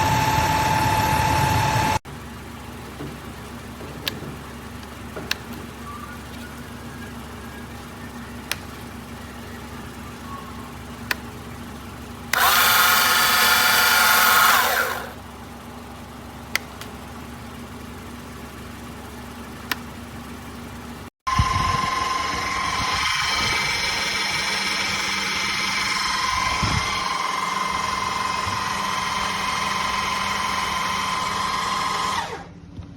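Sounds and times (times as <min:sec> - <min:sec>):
electric jack motor running: 0:00.0 - 0:20.1, 0:21.3 - 0:32.6.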